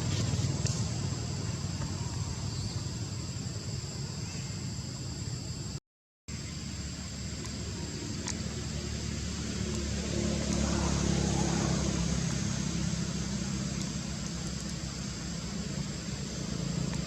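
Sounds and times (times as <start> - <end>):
vehicle engine rumbling: 0.0 - 4.8, 6.3 - 17.0.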